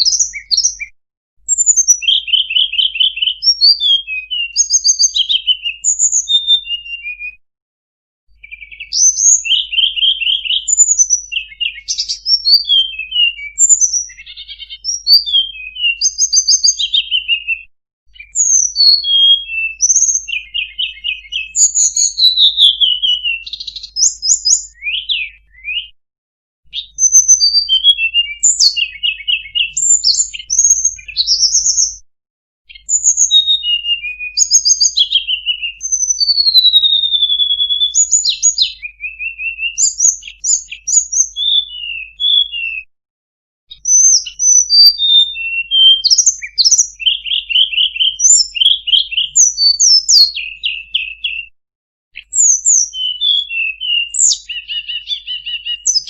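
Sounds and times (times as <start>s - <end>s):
songbird singing: 0.0s - 0.9s, 1.5s - 7.4s, 8.3s - 25.9s, 26.6s - 32.0s, 32.7s - 42.8s, 43.7s - 51.5s, 52.2s - 56.0s.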